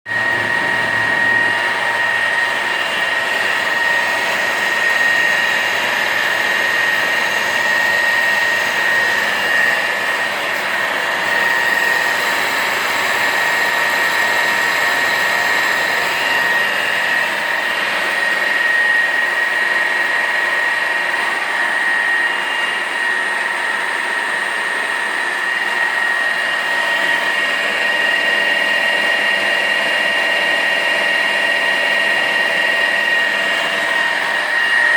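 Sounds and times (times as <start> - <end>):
lathe whirring with high whine: 0.1 - 34.9.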